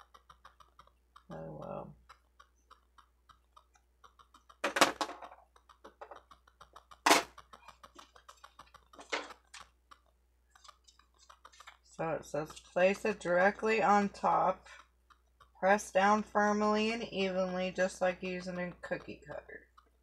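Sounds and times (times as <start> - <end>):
light clicks and ticks: 0.0 - 20.0.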